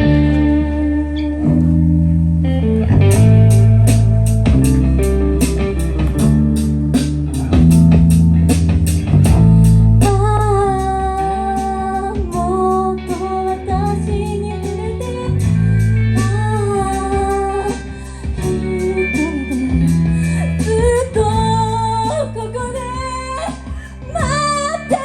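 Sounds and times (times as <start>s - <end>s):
live band playing: 3.0s - 25.0s.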